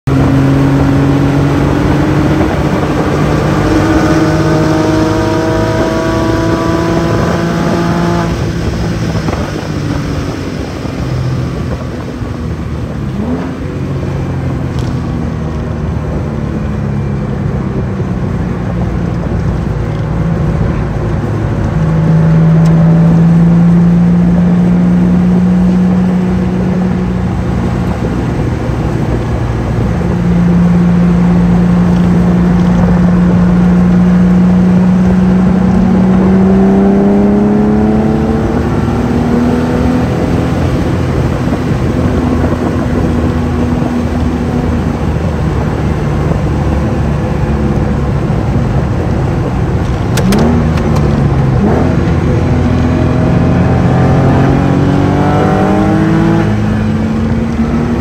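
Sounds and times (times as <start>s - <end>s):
car engine at speed: 0.0s - 58.0s.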